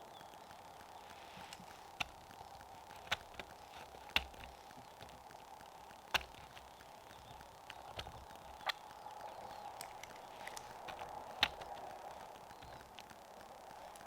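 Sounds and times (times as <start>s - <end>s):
sharp clicks or distant pops: 0.0s - 14.0s
steady faint hiss: 0.0s - 14.0s.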